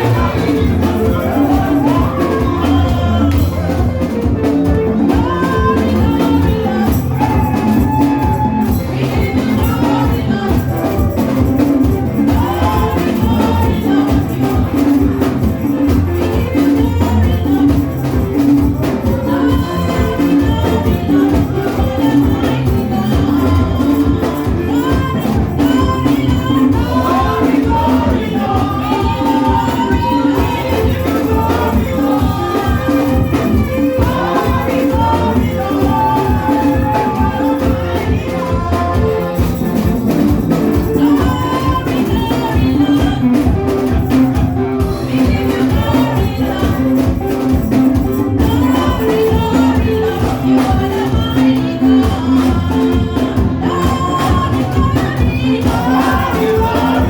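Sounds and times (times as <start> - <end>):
gospel music with beat and bass: 0.0 - 57.0
voices singing: 0.0 - 57.0.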